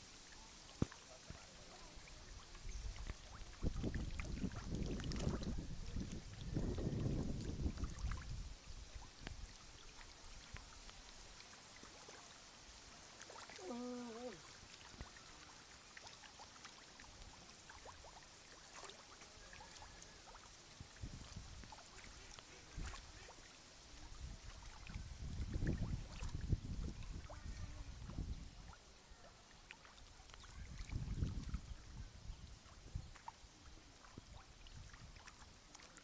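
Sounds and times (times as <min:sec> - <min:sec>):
small clicks and splashes: 0:00.2 - 0:12.4, 0:13.0 - 0:28.8, 0:29.5 - 0:31.9, 0:32.6 - 0:36.0
water lapping against concrete: 0:00.2 - 0:36.0.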